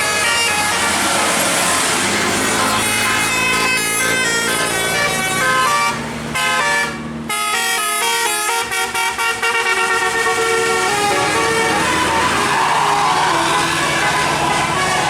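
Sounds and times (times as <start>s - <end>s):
bus musical horn tune: 0.0s - 15.0s.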